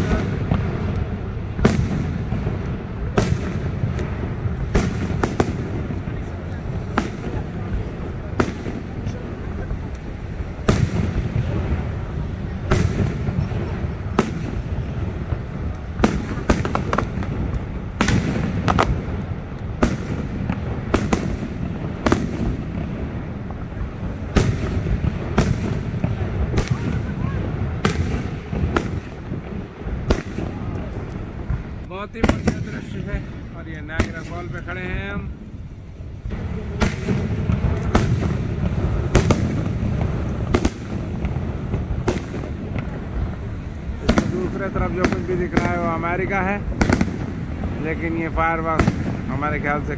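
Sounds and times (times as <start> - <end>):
firework shells bursting: 0.0 - 49.9
steady low rumble: 0.0 - 49.9.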